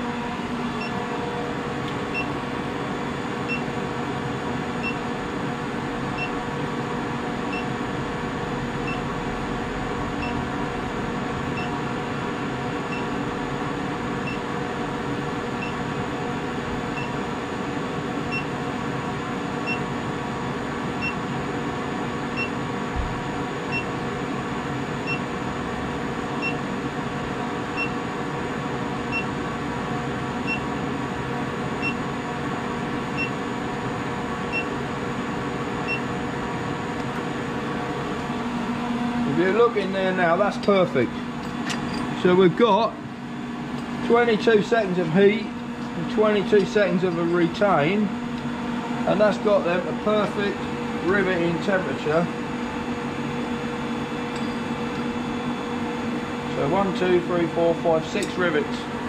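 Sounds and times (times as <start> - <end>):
induction heater humming: 0.0 - 59.0.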